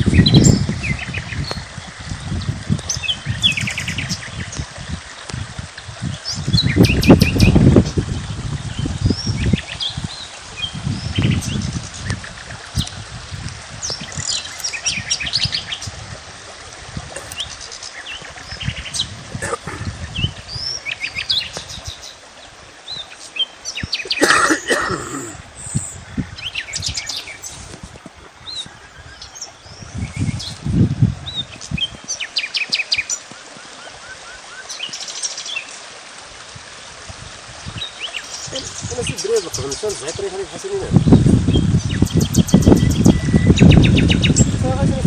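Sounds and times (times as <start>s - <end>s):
small songbirds chirping: 0.0s - 5.4s, 6.0s - 16.0s, 17.2s - 35.8s, 37.6s - 45.0s.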